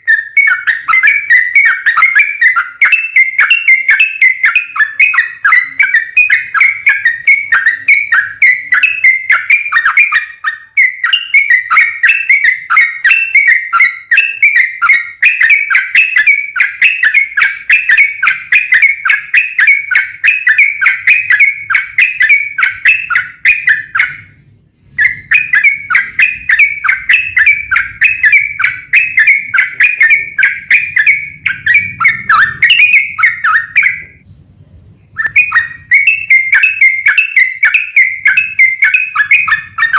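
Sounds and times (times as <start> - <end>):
bird singing whistled notes: 0.0 - 34.2, 34.9 - 39.9.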